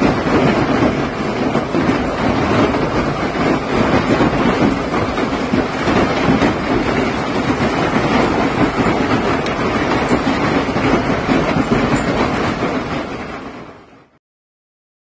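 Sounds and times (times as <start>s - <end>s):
heavy hail pelting down: 0.0s - 14.1s.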